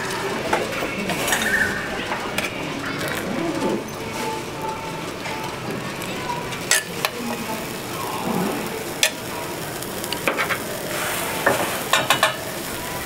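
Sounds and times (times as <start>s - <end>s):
crepe sizzling on griddle: 0.0s - 13.0s.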